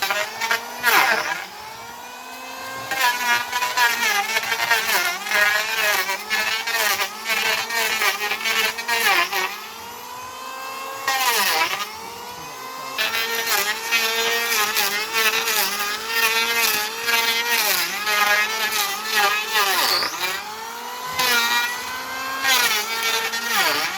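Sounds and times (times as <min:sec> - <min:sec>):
electric planer cutting wood: 0:00.0 - 0:23.9.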